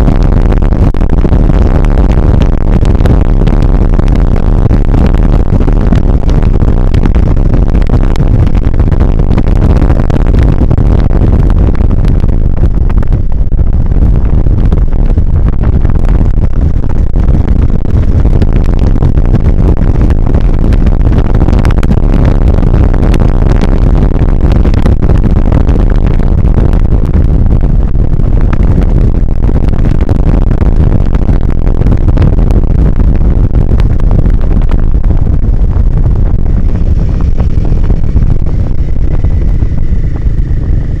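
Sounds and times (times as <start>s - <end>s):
jolting noise on microphone: 0.0s - 41.0s
motorcycle engine rumble: 0.0s - 41.0s
wind noise on microphone: 0.0s - 41.0s.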